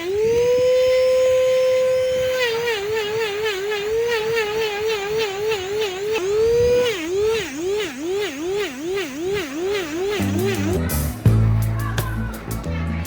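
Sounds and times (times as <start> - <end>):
dental handpiece grinding whine: 0.0 - 11.2.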